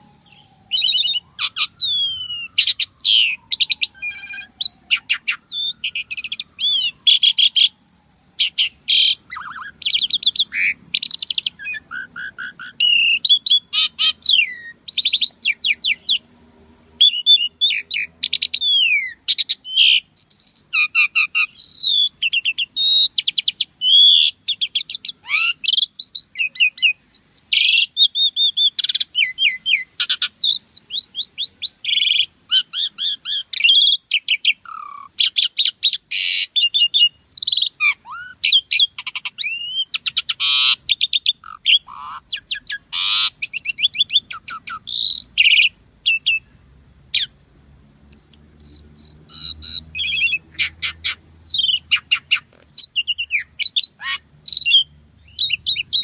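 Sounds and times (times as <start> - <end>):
starling singing: 0.0 - 47.4, 48.1 - 56.0.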